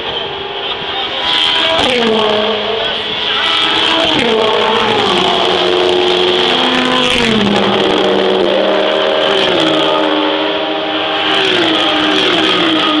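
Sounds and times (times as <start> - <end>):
race car engines accelerating: 0.0 - 13.0.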